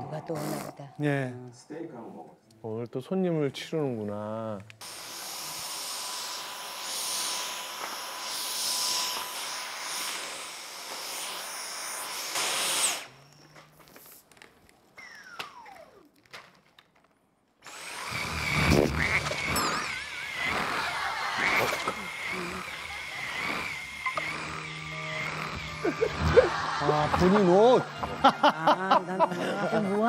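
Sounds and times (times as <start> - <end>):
stick vacuum cleaner whining: 4.8 - 30.0.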